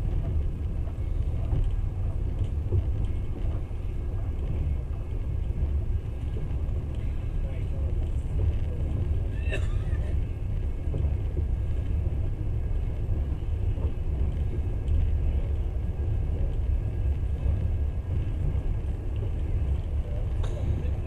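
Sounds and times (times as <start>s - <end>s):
train rumbling along: 0.0s - 21.0s.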